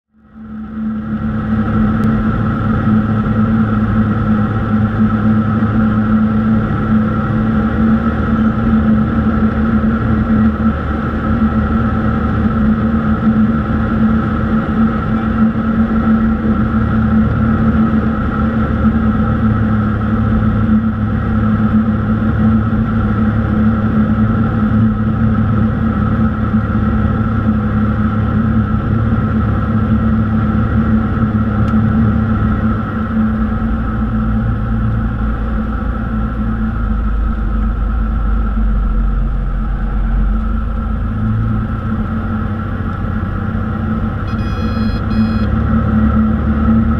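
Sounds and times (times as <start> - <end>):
aircraft engine and propeller hum: 0.1 - 46.9
high engine whine: 0.1 - 46.9.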